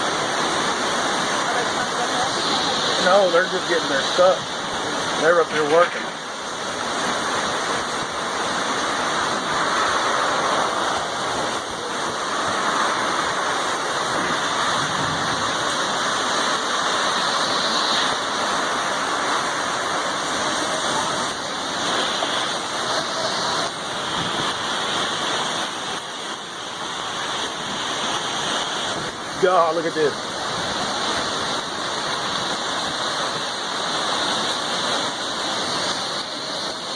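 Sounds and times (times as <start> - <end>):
storm wind and rain: 0.0 - 36.9.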